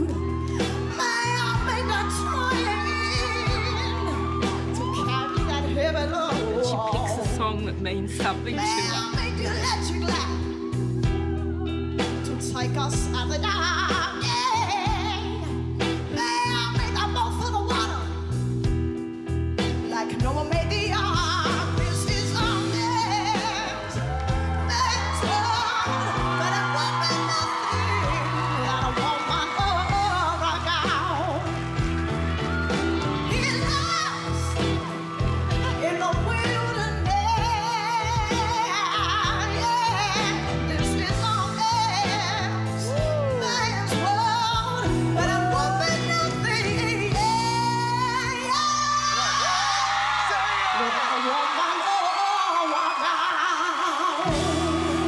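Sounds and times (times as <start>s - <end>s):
woman singing with vibrato: 0.0s - 7.3s, 12.2s - 18.2s, 19.8s - 31.7s, 32.7s - 55.0s
band accompaniment: 0.0s - 55.0s.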